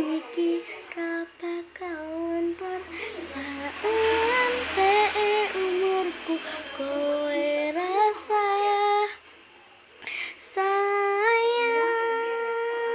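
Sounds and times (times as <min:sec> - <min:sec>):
woman singing unaccompanied: 0:00.0 - 0:09.2, 0:10.2 - 0:12.9.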